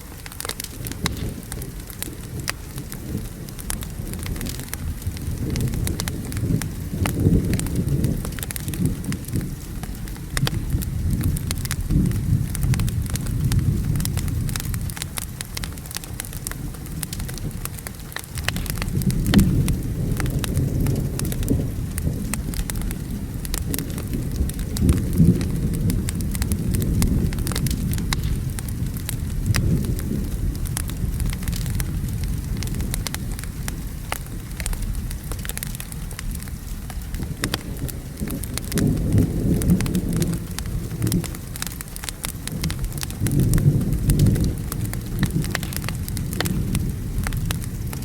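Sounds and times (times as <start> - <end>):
low thunder rumbling: 0.0 - 48.0
steady rain: 0.0 - 48.0
wood fire crackling: 0.0 - 48.0.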